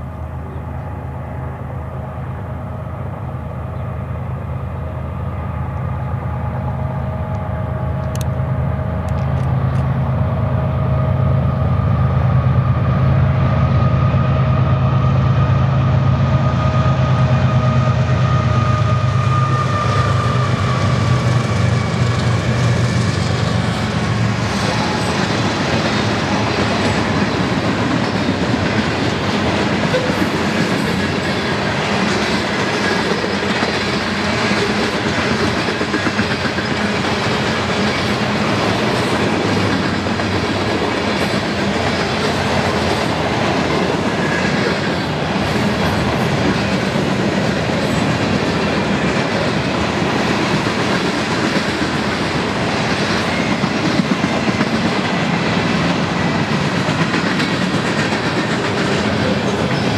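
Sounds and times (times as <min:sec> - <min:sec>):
train wheels running on rail: 0:00.0 - 0:59.9.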